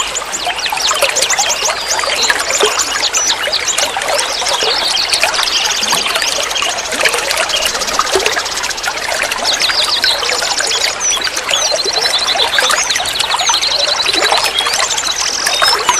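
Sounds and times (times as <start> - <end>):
water trickling and gurgling: 0.0 - 15.9.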